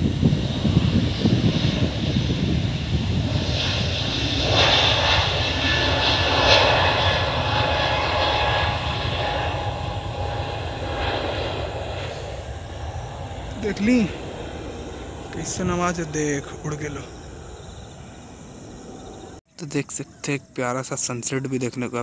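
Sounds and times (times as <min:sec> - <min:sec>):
jet engines roaring: 0:00.0 - 0:19.4.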